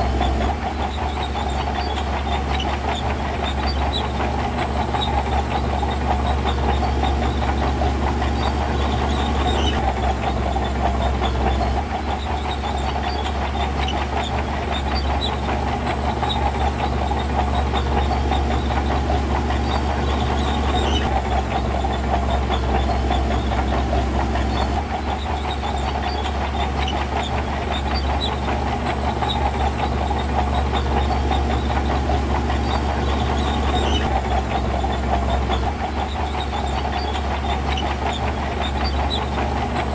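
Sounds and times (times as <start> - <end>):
heavy diesel machinery running: 0.0 - 39.9
machinery rattle and clatter: 0.0 - 39.9.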